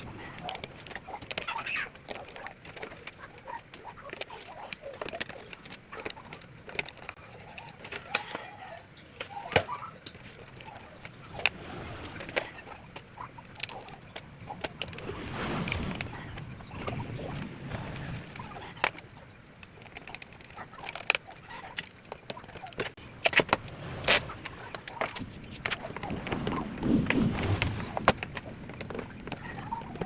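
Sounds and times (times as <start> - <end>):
bird calls: 0.0 - 30.0.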